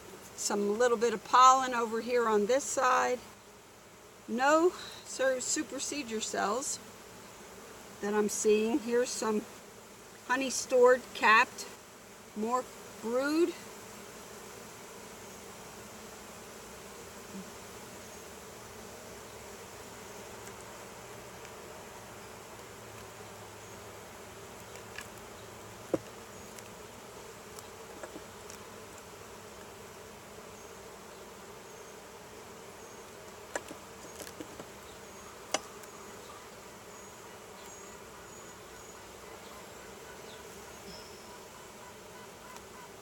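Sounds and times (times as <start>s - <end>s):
bees buzzing: 0.0s - 43.0s.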